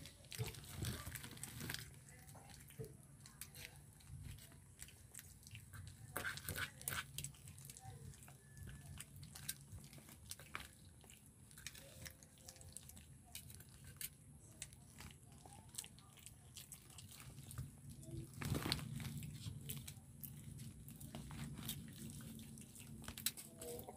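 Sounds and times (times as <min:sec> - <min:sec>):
puppies chewing and crunching: 0:00.0 - 0:23.9.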